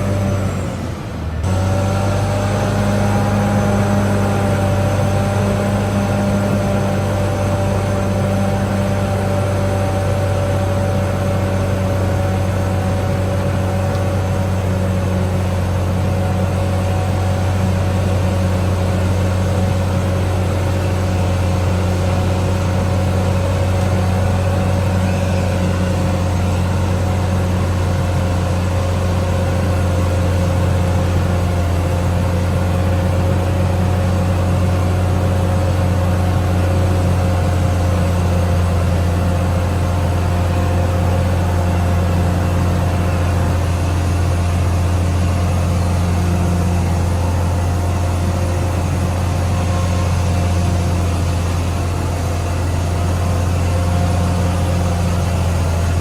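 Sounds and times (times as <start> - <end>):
bulldozer diesel engine droning: 0.0 - 56.0
steady engine whine: 0.0 - 56.0.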